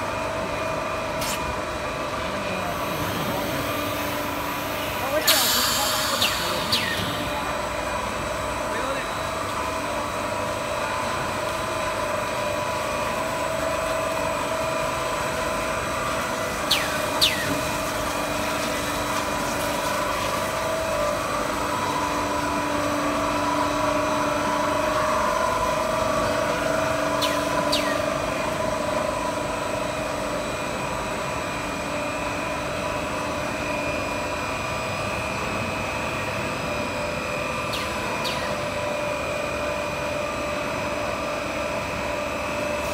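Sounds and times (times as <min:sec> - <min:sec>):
machine drone: 0:00.0 - 0:42.9.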